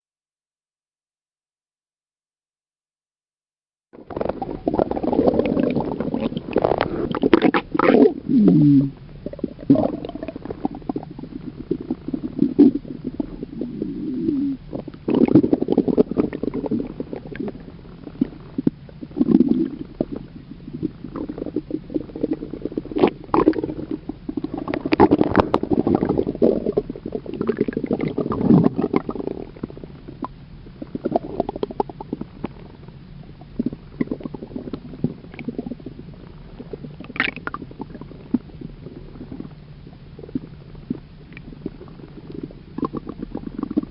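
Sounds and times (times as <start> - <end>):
stomach rumbling and gurgling: 4.0 - 43.9.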